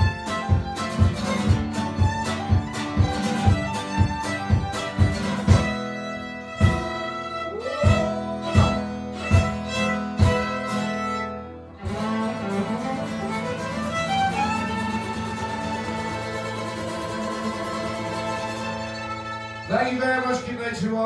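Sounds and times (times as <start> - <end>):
steady beat: 0.0 - 19.6
strummed acoustic guitar: 0.0 - 20.8
fiddle: 0.0 - 21.0.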